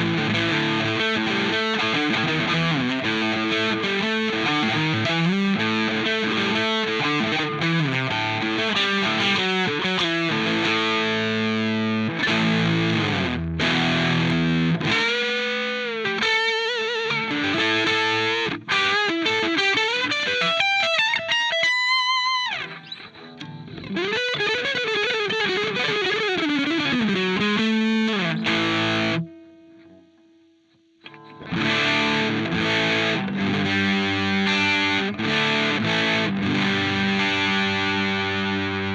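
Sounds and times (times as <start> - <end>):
overdriven electric guitar: 0.0 - 38.9.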